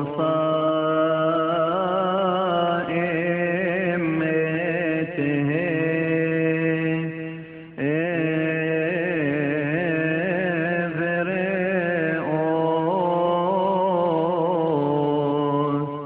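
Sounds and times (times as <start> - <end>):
person chanting a hymn: 0.0 - 16.0.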